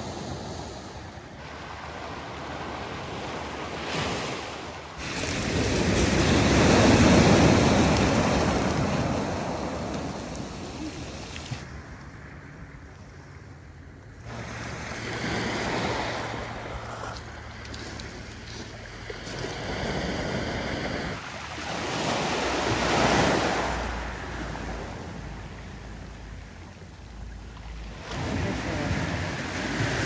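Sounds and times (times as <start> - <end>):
waves washing onto pebble beach: 0.0 - 11.8, 14.3 - 25.9, 27.9 - 30.0.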